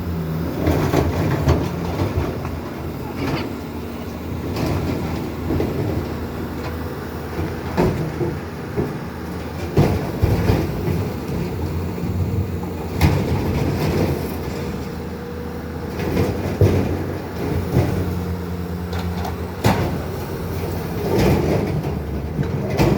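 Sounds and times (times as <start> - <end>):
farm machinery engine drone: 0.0 - 22.9.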